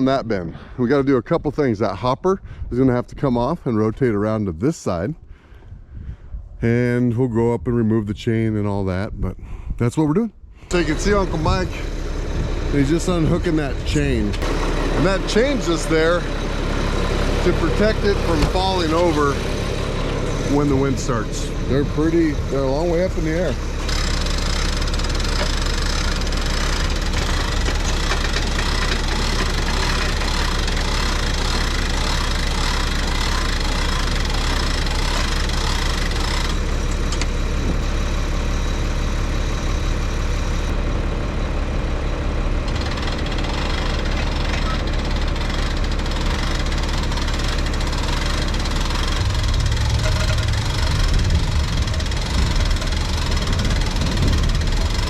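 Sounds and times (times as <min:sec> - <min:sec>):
engine idling: 0:10.6 - 0:55.0.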